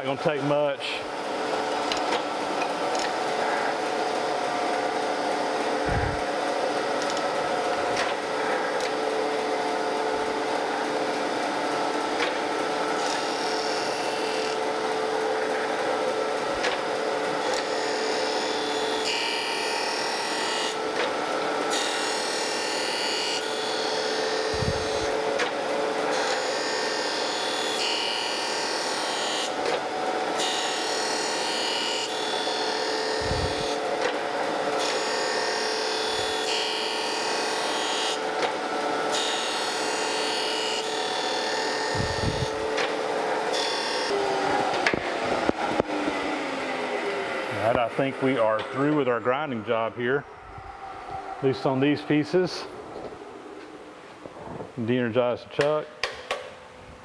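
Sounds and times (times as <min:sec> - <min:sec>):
surface grinder motor hum: 0:00.0 - 0:26.6, 0:32.8 - 0:54.4.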